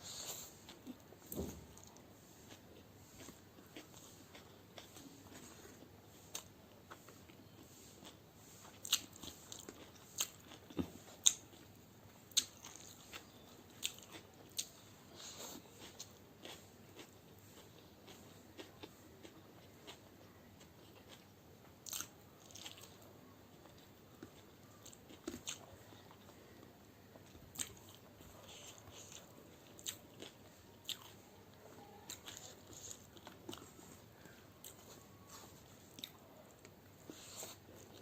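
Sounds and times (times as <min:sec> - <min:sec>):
person chewing crunchy food: 0:01.6 - 0:23.0, 0:23.6 - 0:38.0.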